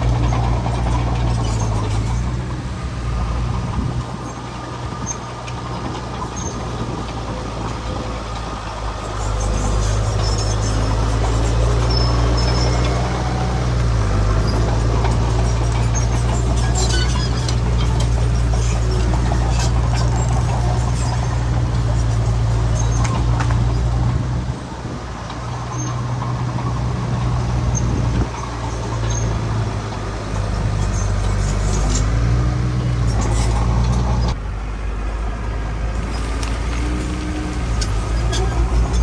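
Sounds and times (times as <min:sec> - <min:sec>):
machinery clanks: 0:00.0 - 0:34.4
heavy diesel engine droning: 0:00.0 - 0:39.0.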